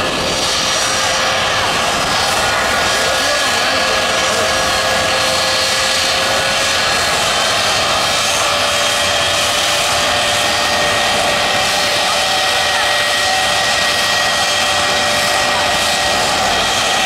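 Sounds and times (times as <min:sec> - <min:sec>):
high-pitched whine: 0:00.0 - 0:17.0
jet turbine engines rushing: 0:00.0 - 0:17.0.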